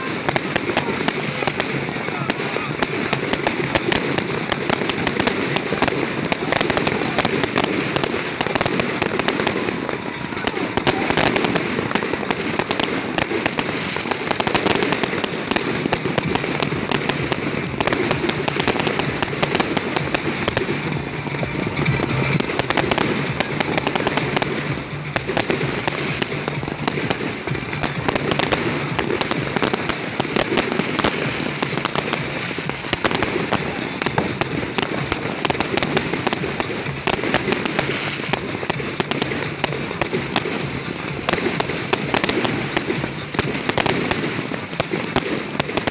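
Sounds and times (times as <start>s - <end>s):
fireworks bangs and crackles: 0.0s - 45.9s
rockets going up: 0.0s - 45.9s.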